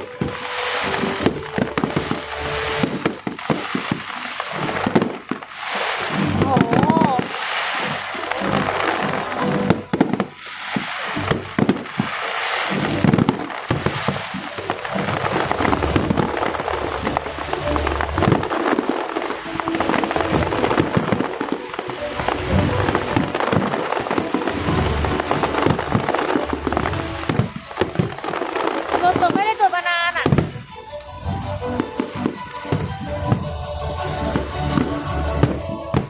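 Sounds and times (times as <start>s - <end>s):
deep fireworks booms: 0.0s - 36.0s
fireworks bursts and crackling: 0.0s - 36.0s
music: 0.0s - 36.0s.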